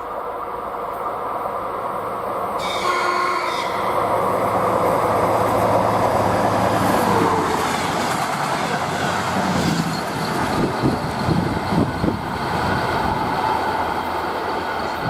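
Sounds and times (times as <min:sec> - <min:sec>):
train wheels rushing on rail: 0:00.0 - 0:15.0.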